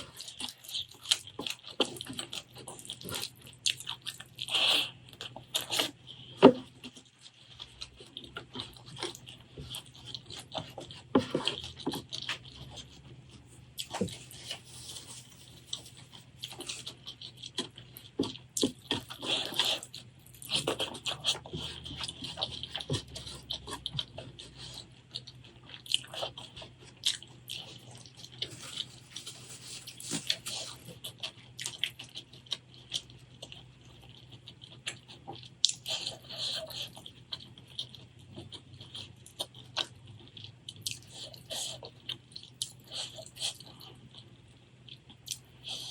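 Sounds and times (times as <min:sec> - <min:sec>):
person chewing with mouth smacks: 0:00.0 - 0:45.9.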